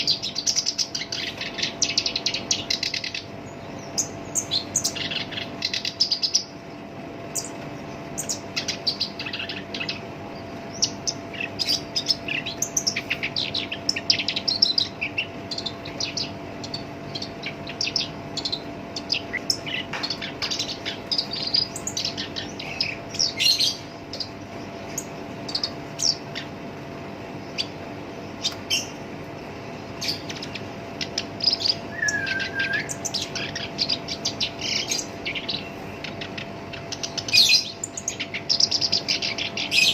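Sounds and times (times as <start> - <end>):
warbler chattering song: 0.0 - 39.9.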